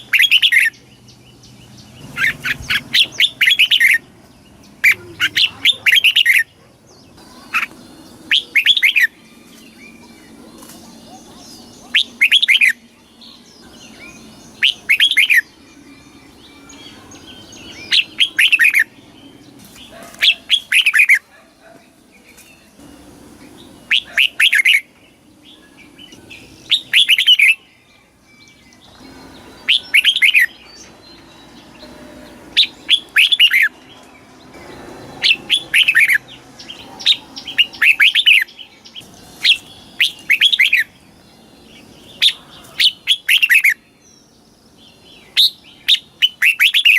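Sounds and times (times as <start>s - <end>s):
bulbul singing whistled phrases: 0.0s - 21.2s, 23.4s - 46.9s.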